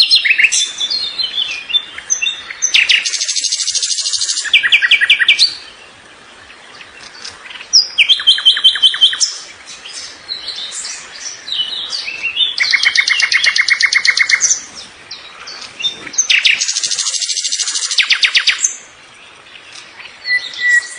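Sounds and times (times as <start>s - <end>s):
soft varied bird chirps: 0.0s - 20.9s
songbird singing rapid trills: 0.0s - 20.9s.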